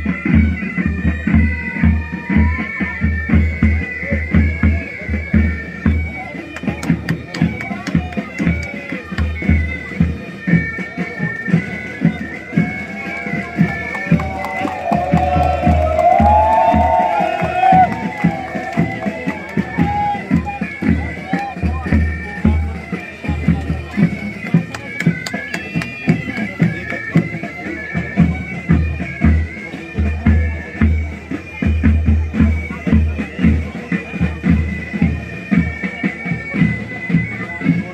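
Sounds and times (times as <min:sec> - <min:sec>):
bagpipes playing melody: 0:00.0 - 0:37.9
steady drum beat: 0:00.0 - 0:37.9.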